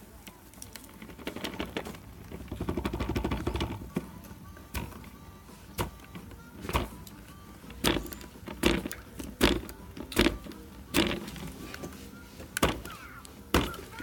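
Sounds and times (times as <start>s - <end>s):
short thumps: 1.0s - 14.0s.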